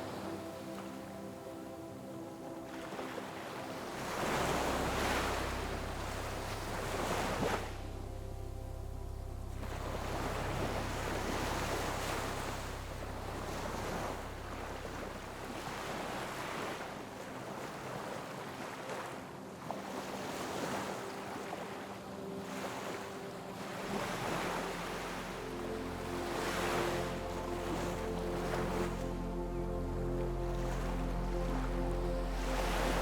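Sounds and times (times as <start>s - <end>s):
ocean waves breaking on shore: 0.0s - 33.0s.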